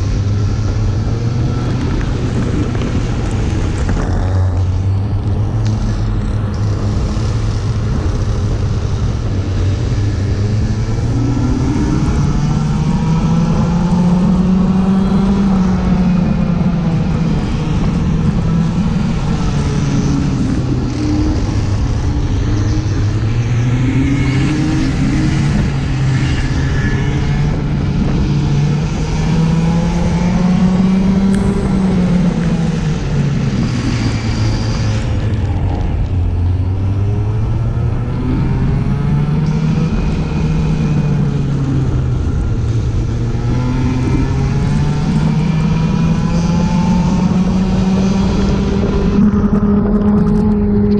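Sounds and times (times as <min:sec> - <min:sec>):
go-kart engine revving: 0:00.0 - 0:50.9
other go-kart engines: 0:00.0 - 0:50.9.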